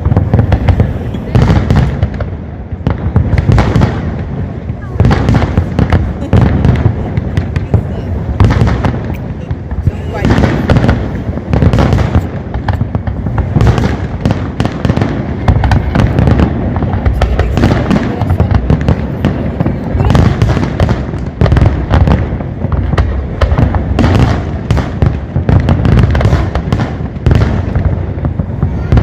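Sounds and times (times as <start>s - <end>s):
fireworks booming: 0.0s - 29.0s
fireworks cracking bursts: 0.0s - 29.0s.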